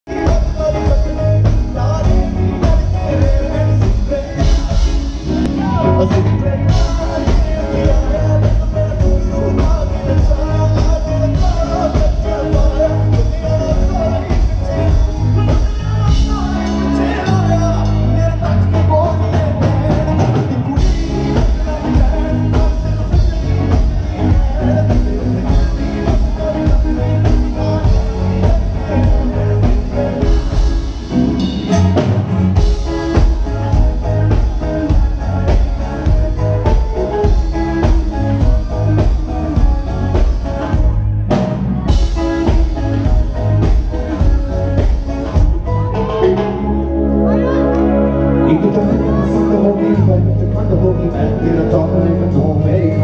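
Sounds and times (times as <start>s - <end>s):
man singing: 0.0s - 53.0s
heavy drum beat: 0.1s - 18.2s, 18.8s - 45.9s.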